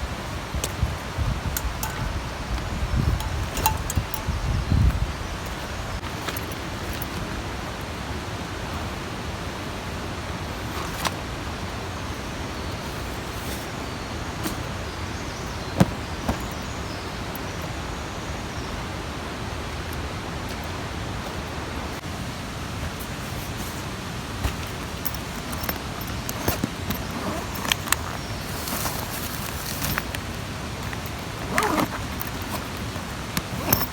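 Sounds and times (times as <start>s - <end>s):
steady rushing outdoor noise: 0.0s - 33.9s.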